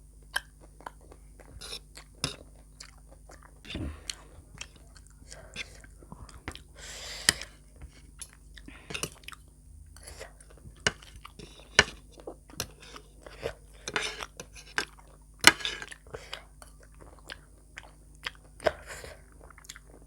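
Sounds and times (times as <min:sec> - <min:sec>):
chewing and crunching: 0:00.2 - 0:06.8, 0:07.4 - 0:20.0.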